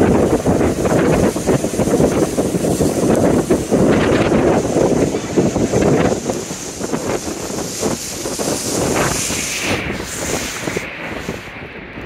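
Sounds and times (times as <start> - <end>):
waves breaking against pier wall: 0.0 - 12.0
wind buffeting microphone: 0.0 - 12.0.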